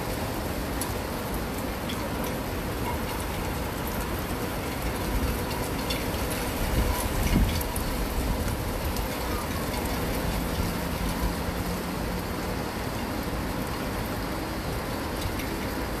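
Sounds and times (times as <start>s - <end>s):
distant city traffic rumble: 0.0s - 16.0s
steady rain: 0.0s - 16.0s.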